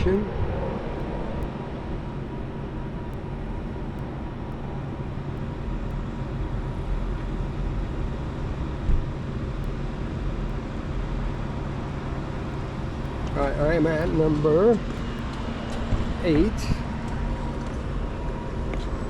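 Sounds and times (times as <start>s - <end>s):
faint constant hum: 0.0s - 19.0s
low rumble: 0.0s - 19.0s.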